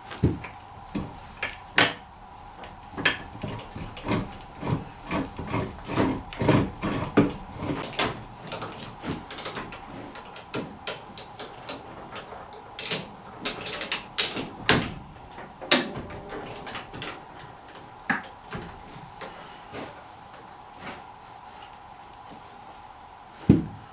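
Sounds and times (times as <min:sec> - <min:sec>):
heavy metal parts clanking: 0:00.0 - 0:20.1.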